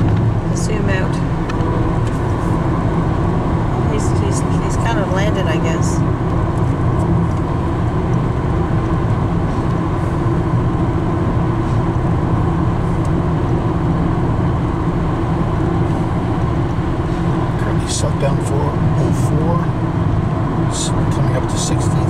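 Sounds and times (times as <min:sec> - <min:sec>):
car road noise drone: 0:00.0 - 0:22.0.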